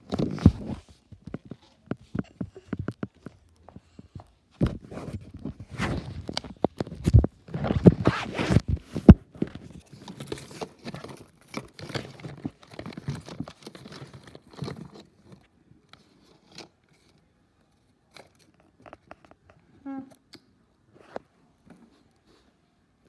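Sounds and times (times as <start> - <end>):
plastic toys rummaged through: 0.0 - 19.6.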